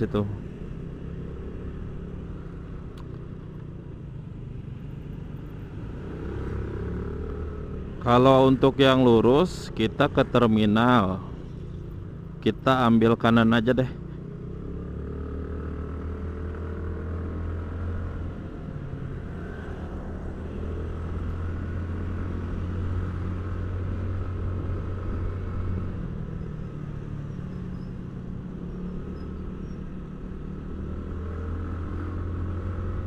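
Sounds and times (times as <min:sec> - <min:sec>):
road noise: 0:00.0 - 0:33.0
vehicle engine hum: 0:00.0 - 0:33.0.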